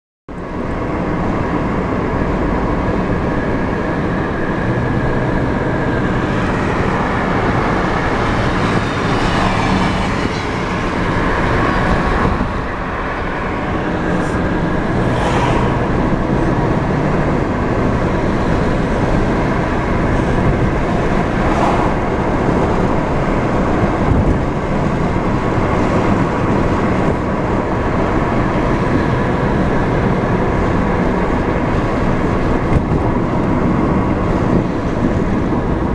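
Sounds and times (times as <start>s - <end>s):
car engine hum: 0.3s - 35.9s.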